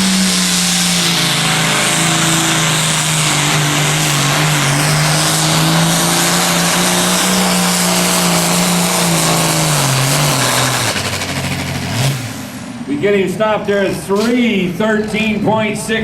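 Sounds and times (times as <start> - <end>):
tractor diesel engine at high revs: 0.0 - 15.6.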